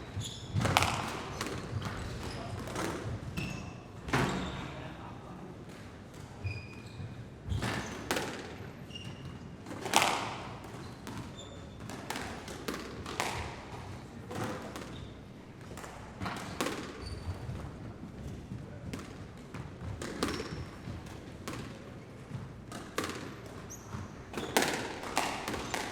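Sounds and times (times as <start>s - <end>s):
reverberant hall background: 0.0s - 25.9s
balls thudding on floor and walls: 0.1s - 4.6s, 9.6s - 25.9s.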